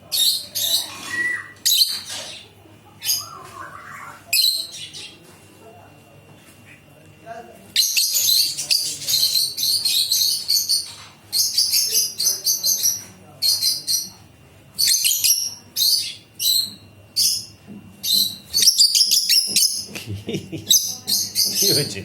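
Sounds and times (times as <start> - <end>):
parrots chirping and chattering: 0.0 - 5.3, 7.8 - 22.0.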